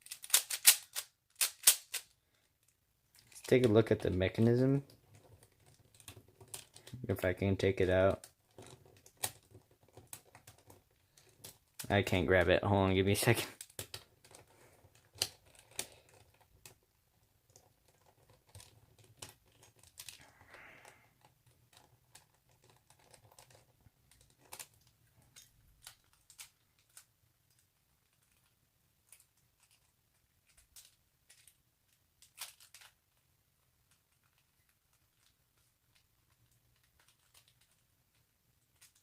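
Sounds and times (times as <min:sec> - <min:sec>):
plastic cube pieces clicking: 0:00.0 - 0:04.1, 0:04.8 - 0:07.0, 0:08.1 - 0:11.9, 0:13.4 - 0:16.8, 0:17.4 - 0:39.0.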